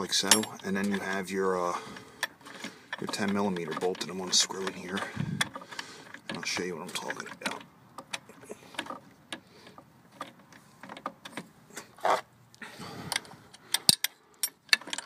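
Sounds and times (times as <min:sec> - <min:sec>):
metal tools clicking and knocking: 0:00.0 - 0:11.4, 0:13.1 - 0:15.0.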